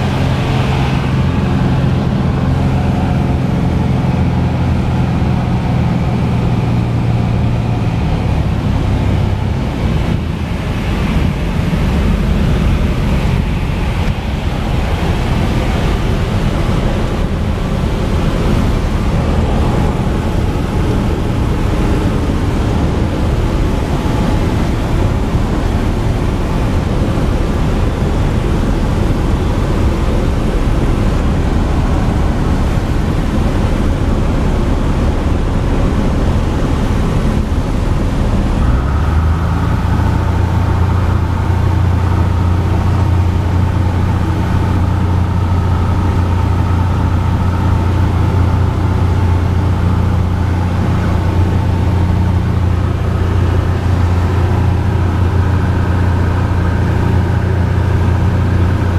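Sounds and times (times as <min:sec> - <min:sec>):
light plane engine drone: 0:00.0 - 0:58.9.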